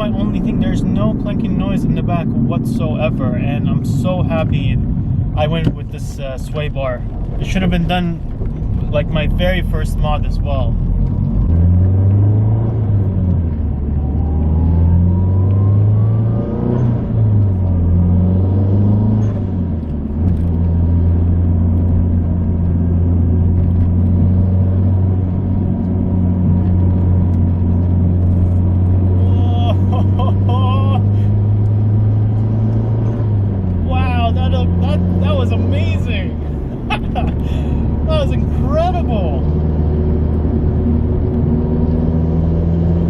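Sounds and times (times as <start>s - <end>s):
car engine while driving: 0.0s - 43.0s
road rumble: 0.0s - 43.0s.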